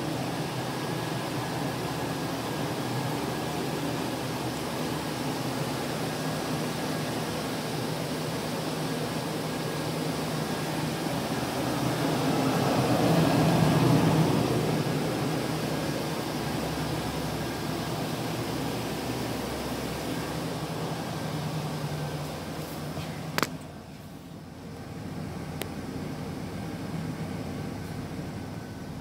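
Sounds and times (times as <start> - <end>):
pickup truck engine idling: 0.0 - 29.0.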